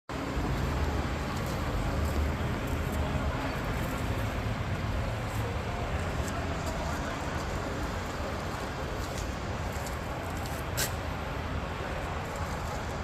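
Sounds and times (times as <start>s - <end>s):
outdoor background noise: 0.1s - 13.0s.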